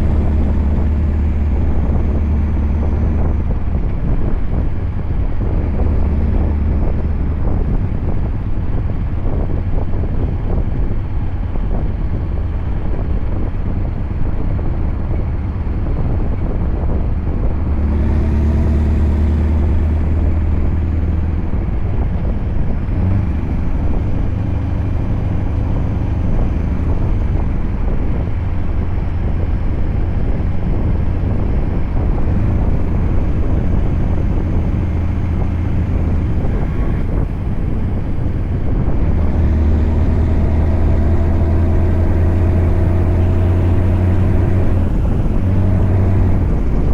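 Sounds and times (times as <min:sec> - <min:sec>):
truck engine running: 0:00.0 - 0:46.9
wind and road noise: 0:00.0 - 0:46.9.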